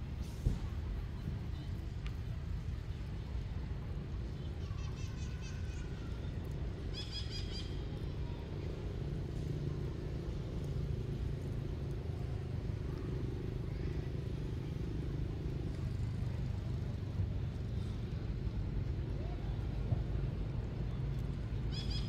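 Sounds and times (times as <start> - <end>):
low outdoor background rumble: 0.0 - 22.0.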